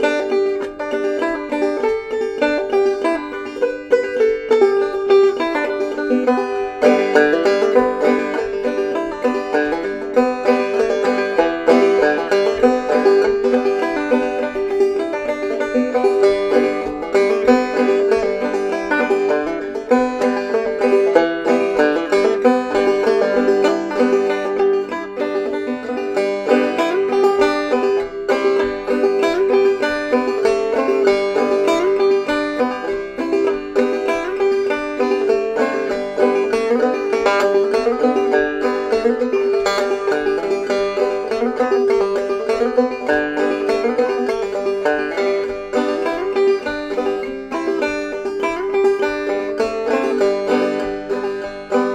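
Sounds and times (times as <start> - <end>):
banjo playing: 0.0 - 51.9.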